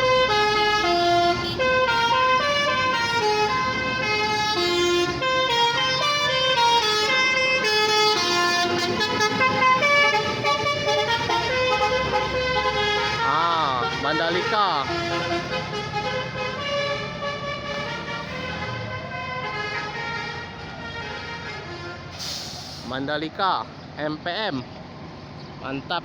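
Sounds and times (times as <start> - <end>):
multi-tone air horn playing a tune: 0.0 - 22.5.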